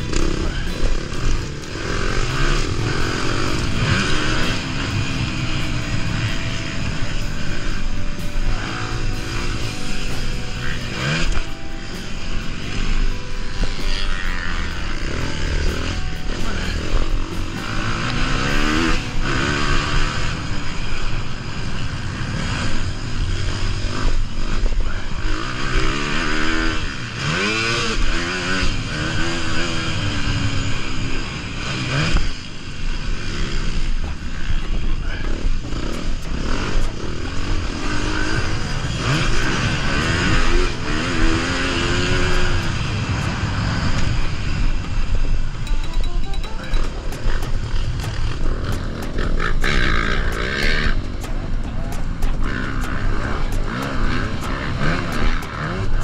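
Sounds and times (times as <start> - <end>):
motocross bike engine revving: 0.0 - 45.7, 46.8 - 56.0.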